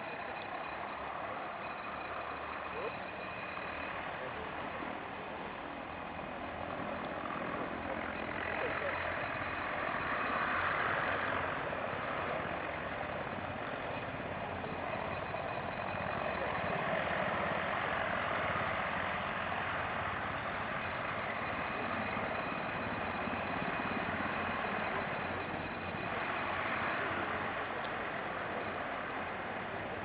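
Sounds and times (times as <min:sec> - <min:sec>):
helicopter rotor rush: 0:00.0 - 0:30.0
high turbine engine whine: 0:00.0 - 0:30.0.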